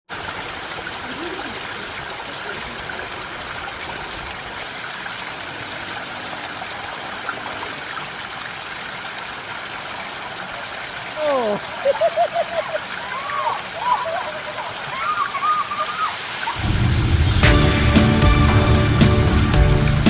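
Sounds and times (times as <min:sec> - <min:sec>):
mountain stream flowing: 0:00.1 - 0:20.0.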